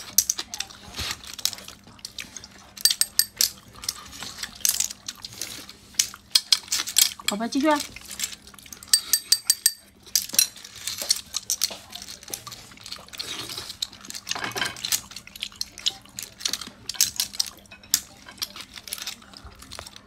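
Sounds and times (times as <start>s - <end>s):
clam shells clattering in metal bowl: 0.0s - 5.4s, 6.0s - 20.0s.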